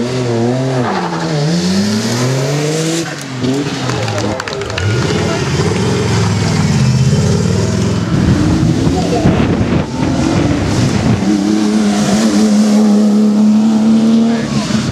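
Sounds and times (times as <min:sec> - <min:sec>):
sports car engine revving: 0:00.0 - 0:14.9.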